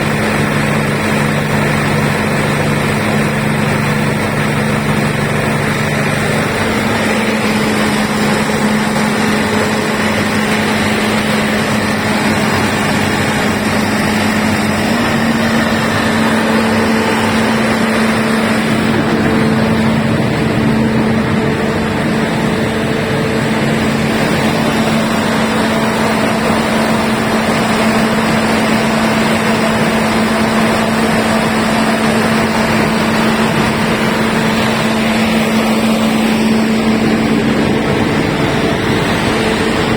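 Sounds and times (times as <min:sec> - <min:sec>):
generator engine droning: 0:00.0 - 0:39.9.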